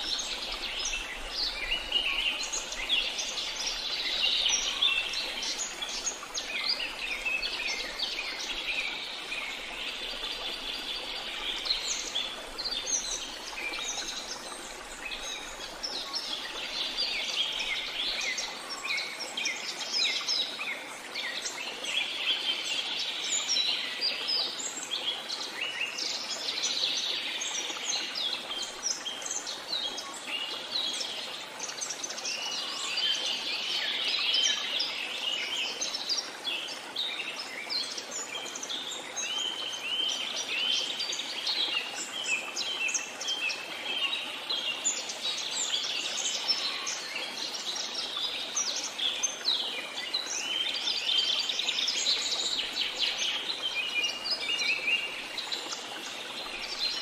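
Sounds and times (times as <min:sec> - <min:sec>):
small waterfall running: 0:00.0 - 0:57.0.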